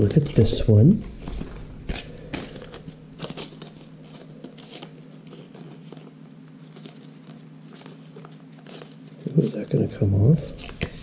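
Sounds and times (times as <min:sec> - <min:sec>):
cardboard box crinkling: 0:01.3 - 0:11.0.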